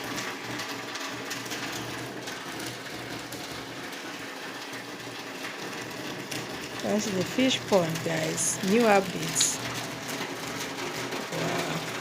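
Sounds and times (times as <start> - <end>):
rain falling: 0.0 - 12.0
water running off roof: 0.0 - 12.0.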